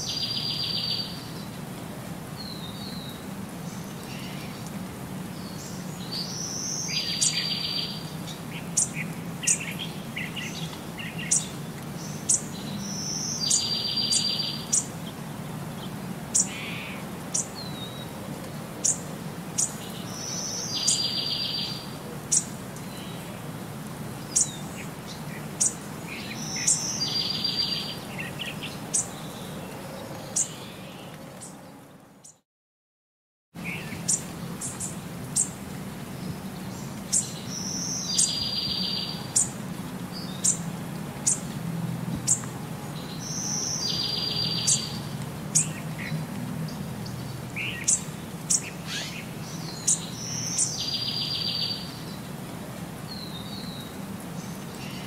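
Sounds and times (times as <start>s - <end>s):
small birds chirping: 0.0s - 1.6s, 2.4s - 23.4s, 24.2s - 32.4s, 33.6s - 41.6s, 42.2s - 55.0s.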